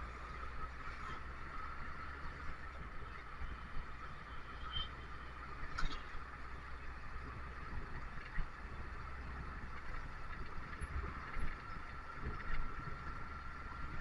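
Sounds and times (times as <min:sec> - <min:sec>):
bus engine rumble: 0:00.0 - 0:14.0
road noise: 0:00.0 - 0:14.0
thin steady whine: 0:00.0 - 0:14.0.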